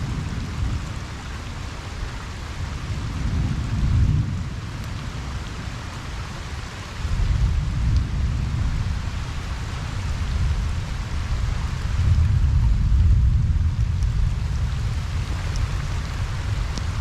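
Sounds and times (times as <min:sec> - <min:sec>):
rain falling on pond: 0:00.0 - 0:17.0.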